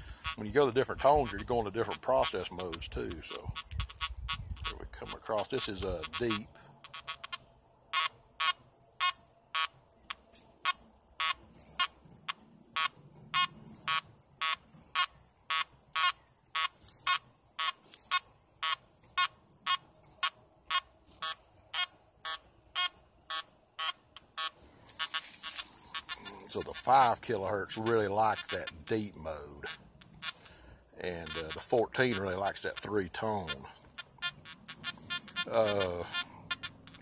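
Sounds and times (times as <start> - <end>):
metal detector beeps: 0.1 - 37.0.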